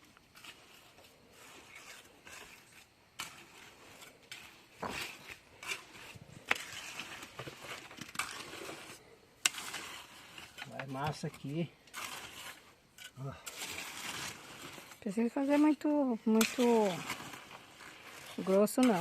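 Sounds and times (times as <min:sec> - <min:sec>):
trowel scraping wet mortar: 0:00.0 - 0:19.0.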